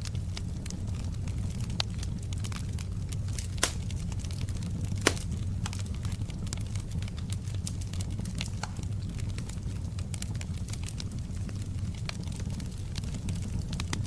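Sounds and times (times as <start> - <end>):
fire pops: 0.0 - 14.0
wood fire crackling: 0.0 - 14.0.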